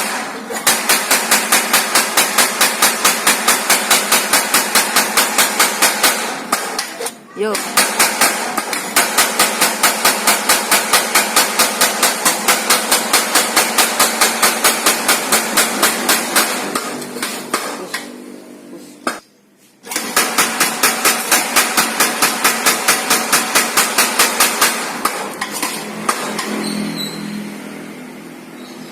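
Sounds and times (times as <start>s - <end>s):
power hammer striking metal: 0.0s - 18.0s, 19.9s - 26.8s.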